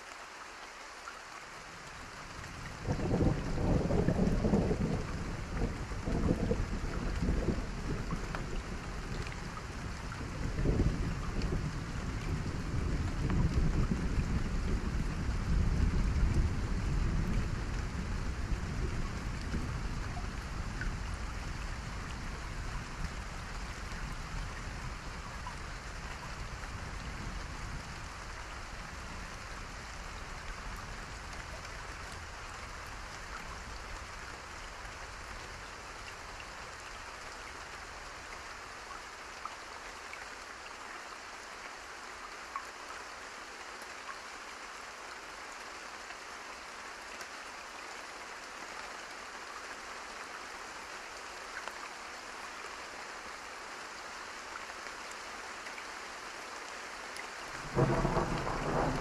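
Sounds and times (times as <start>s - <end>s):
individual raindrops: 0.0s - 59.0s
steady rain: 0.0s - 59.0s.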